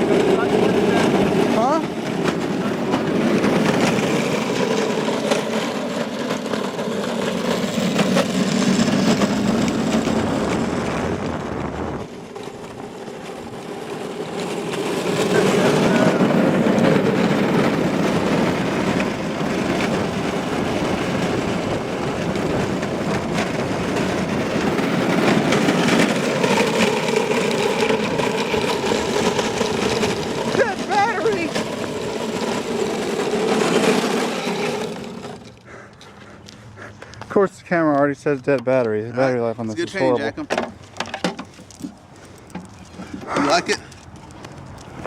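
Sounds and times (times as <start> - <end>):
electric go-kart whirring: 0.0 - 36.6.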